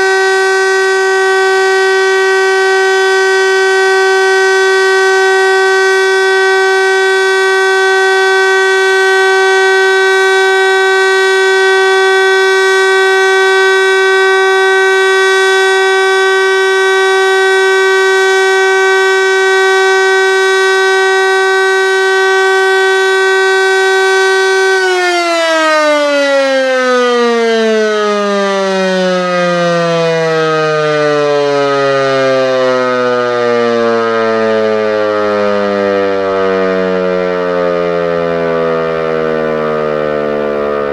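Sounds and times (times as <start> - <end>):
motor siren steady tone: 0.0 - 40.9
siren rotor spinning down: 0.0 - 40.9.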